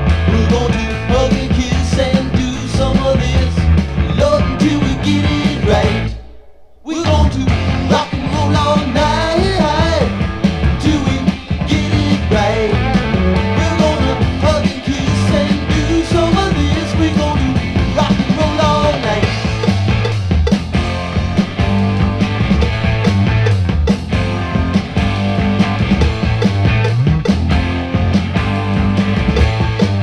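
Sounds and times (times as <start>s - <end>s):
rock song from vinyl record: 0.0s - 30.0s.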